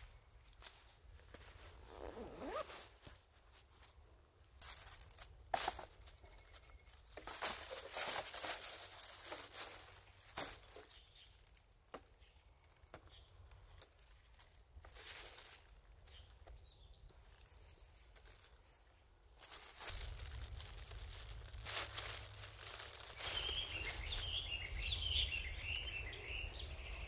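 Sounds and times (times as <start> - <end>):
rustling and crinkling material: 0.0 - 25.0.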